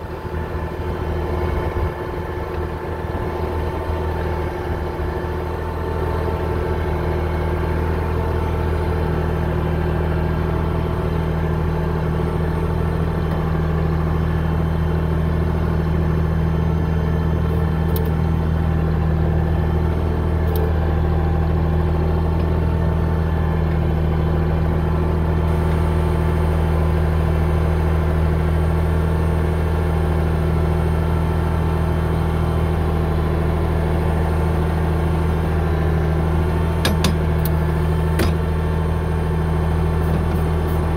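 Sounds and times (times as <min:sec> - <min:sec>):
bulldozer engine running: 0:00.0 - 0:40.9.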